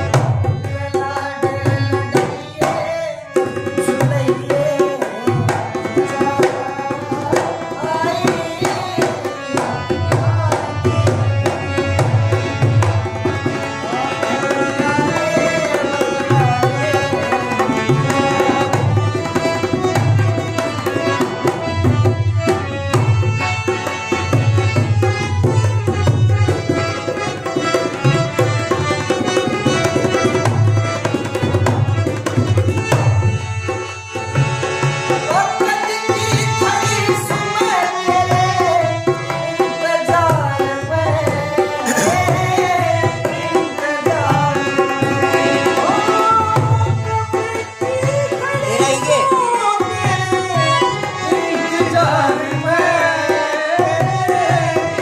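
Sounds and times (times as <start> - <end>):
hand drum rhythm: 0.0 - 55.0.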